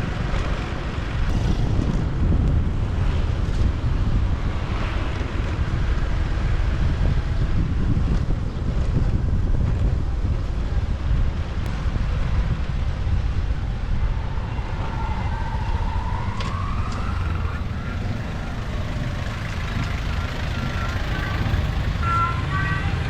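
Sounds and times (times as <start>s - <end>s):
motorbike engine rumble: 0.0s - 23.0s
wind buffeting microphone: 0.0s - 23.0s.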